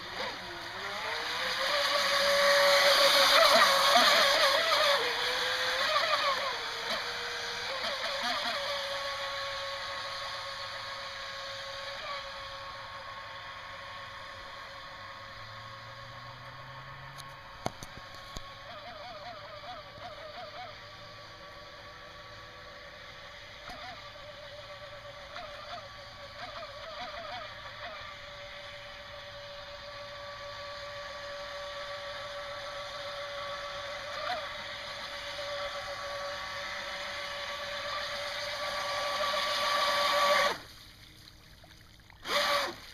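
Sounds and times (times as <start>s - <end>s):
electric motor whine: 0.0s - 40.7s, 42.2s - 42.9s.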